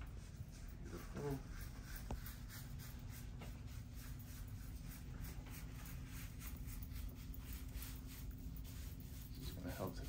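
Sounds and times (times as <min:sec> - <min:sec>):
gauze swab scrubbing scalp: 0:00.0 - 0:10.0.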